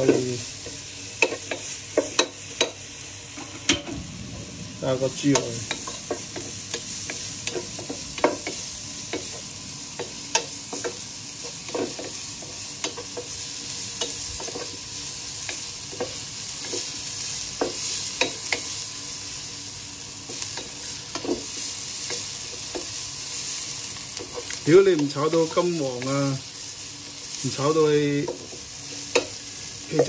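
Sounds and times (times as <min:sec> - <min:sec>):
shallots sizzling in oil: 0:00.0 - 0:30.0.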